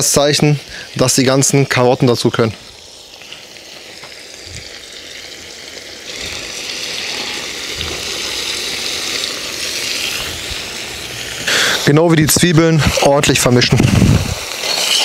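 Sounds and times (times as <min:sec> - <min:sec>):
meat and onions sizzling in fat: 0:00.0 - 0:15.0.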